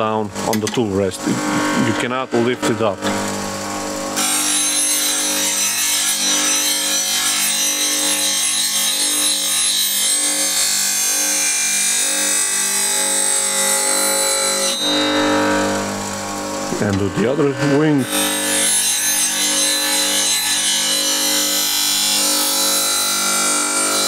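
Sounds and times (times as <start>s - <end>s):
bench grinder motor hum: 0.0s - 24.0s
steel hissing on grinding wheel: 0.4s - 24.0s.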